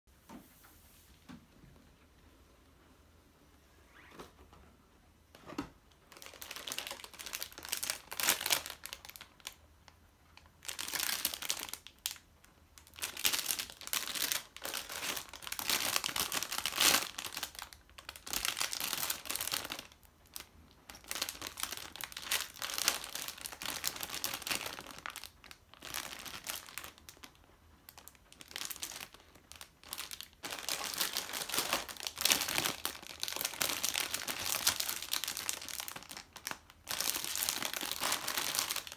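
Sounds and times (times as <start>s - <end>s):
plastic bags crinkling: 6.0s - 38.9s.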